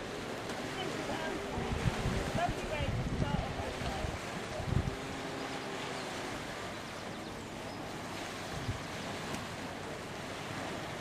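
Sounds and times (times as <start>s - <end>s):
surf washing against shore: 0.0s - 11.0s
wind: 0.0s - 11.0s.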